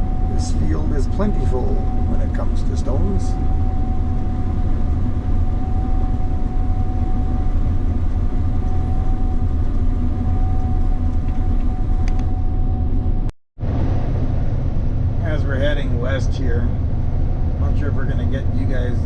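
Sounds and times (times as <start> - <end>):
engine drone with whine: 0.0 - 19.0.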